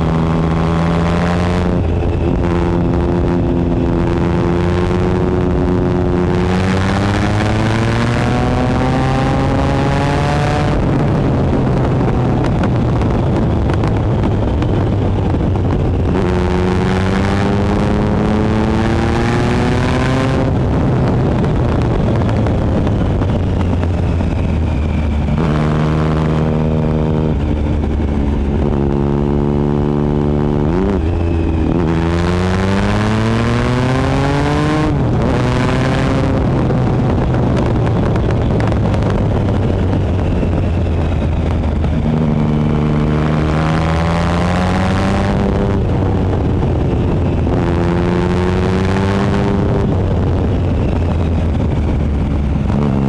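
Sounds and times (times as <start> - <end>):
motorcycle engine accelerating: 0.0 - 53.0
rushing wind noise: 0.0 - 53.0.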